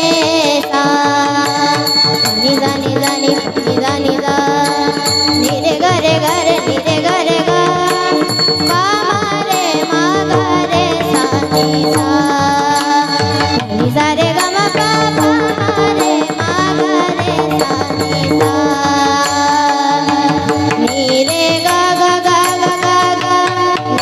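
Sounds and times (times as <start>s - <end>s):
drum accompaniment: 0.0s - 24.0s.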